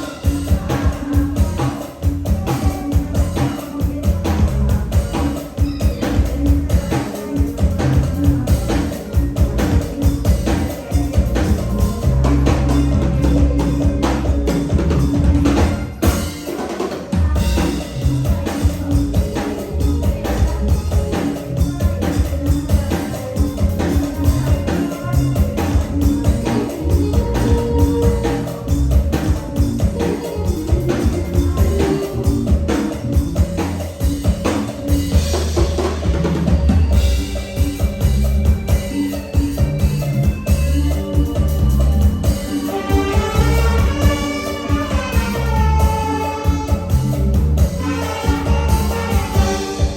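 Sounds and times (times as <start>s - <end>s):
dance music with drums and bass: 0.0s - 49.9s.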